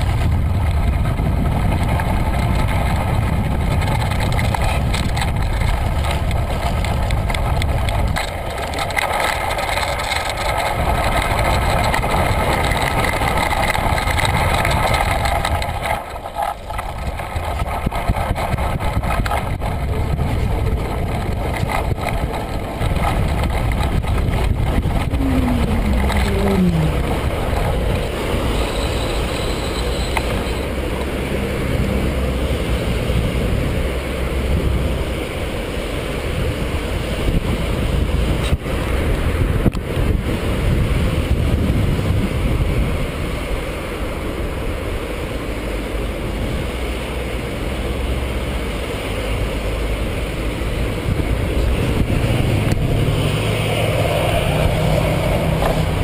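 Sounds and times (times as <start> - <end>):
road traffic: 0.0 - 56.0
wind on microphone: 0.0 - 56.0.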